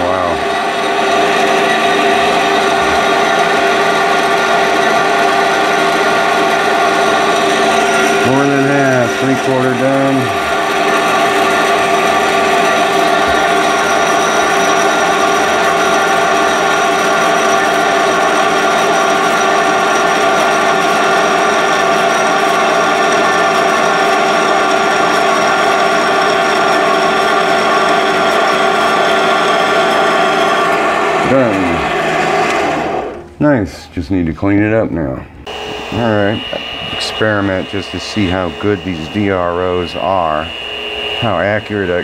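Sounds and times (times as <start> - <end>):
band saw cutting metal: 0.0 - 33.4, 35.4 - 42.0.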